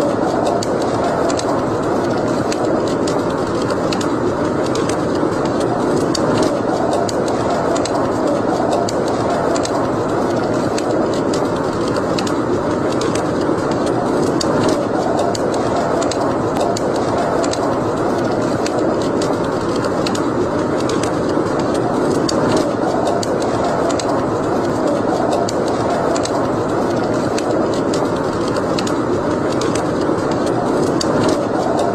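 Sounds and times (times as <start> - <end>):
fire crackling and popping: 0.0 - 31.9
fire rushing hiss: 0.0 - 31.9.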